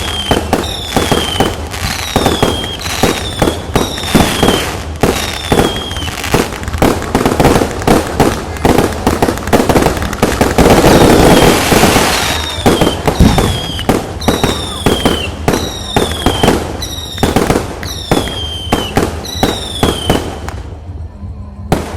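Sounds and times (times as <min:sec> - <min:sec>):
fireworks crackling: 0:00.0 - 0:21.0
firecrackers banging: 0:00.0 - 0:21.1, 0:21.7 - 0:21.9.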